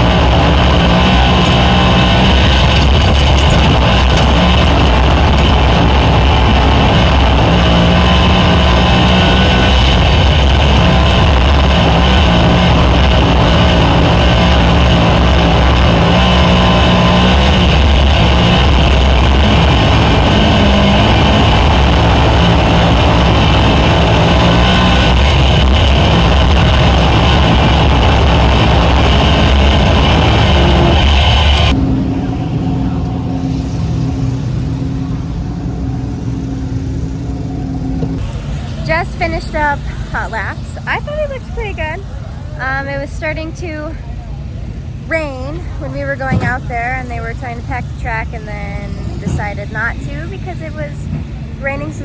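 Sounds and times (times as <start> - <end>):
race car engine: 0.0 - 52.0.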